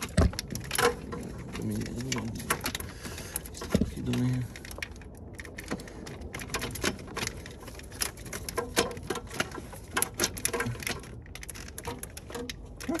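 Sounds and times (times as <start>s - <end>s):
plastic hose fittings clicking: 0.0s - 13.0s.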